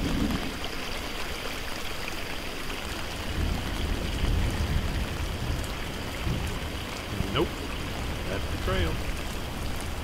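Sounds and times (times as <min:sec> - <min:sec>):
rainwater running down trail: 0:00.0 - 0:10.0
steady rain: 0:00.0 - 0:10.0.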